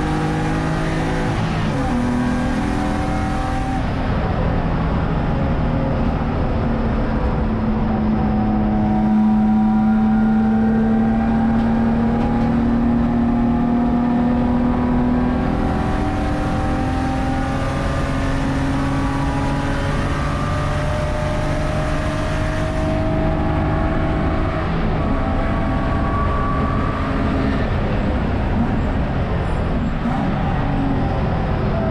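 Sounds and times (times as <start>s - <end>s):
race car engine at full throttle: 0.0s - 31.9s.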